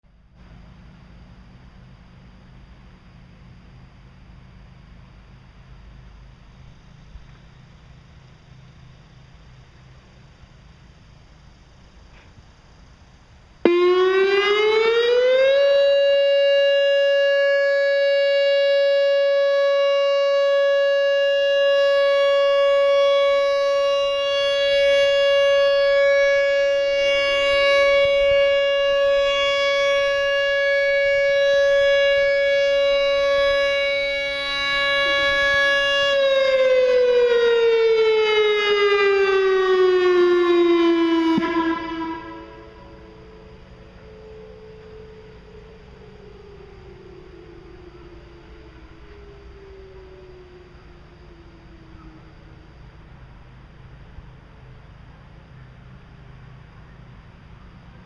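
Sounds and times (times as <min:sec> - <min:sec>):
outdoor warning siren: 0:00.1 - 0:58.0.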